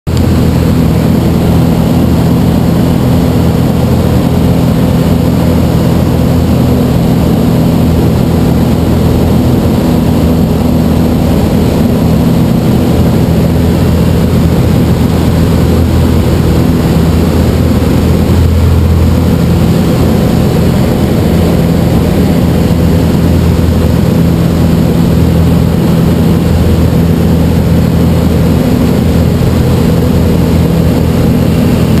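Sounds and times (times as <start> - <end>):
light aircraft engine drone: 0.1 - 32.0.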